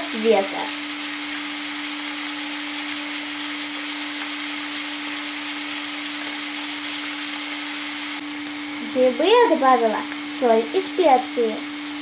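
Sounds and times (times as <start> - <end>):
constant low hum: 0.0 - 12.0
mushrooms sizzling in frying pan: 0.0 - 12.0.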